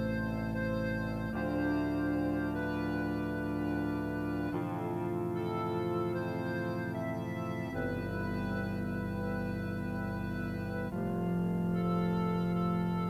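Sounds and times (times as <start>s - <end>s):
sustained organ chords: 0.0s - 13.0s.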